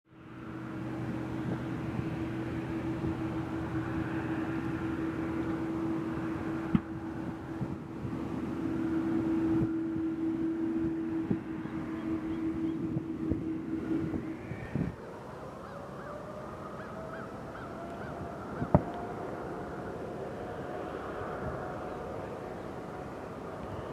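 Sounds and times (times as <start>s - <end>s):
jet engines humming: 0.1s - 23.9s.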